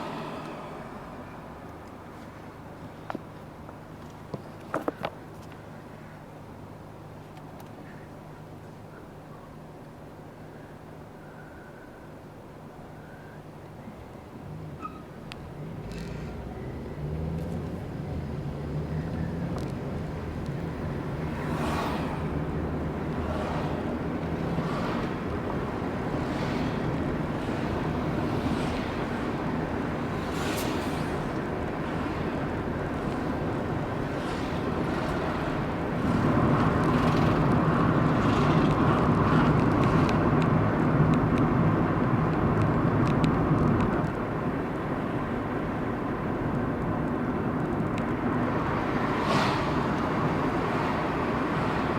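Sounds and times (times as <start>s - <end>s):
car engine drone: 0.0s - 7.2s, 10.1s - 51.9s
road noise: 0.0s - 51.9s.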